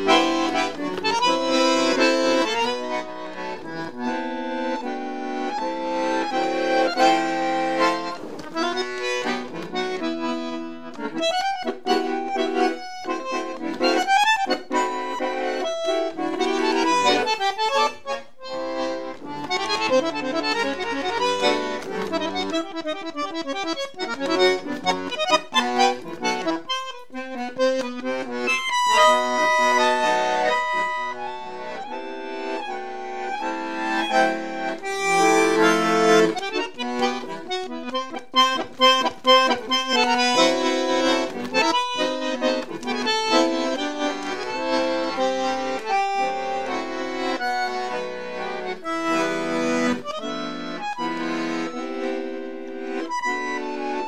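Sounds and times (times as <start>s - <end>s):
bandoneon playing: 0.0s - 54.0s.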